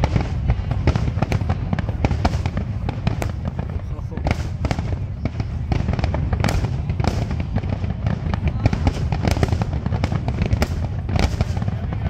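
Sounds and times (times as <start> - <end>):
fireworks bangs and pops: 0.0 - 12.0
low rumble of shells bursting: 0.0 - 12.0.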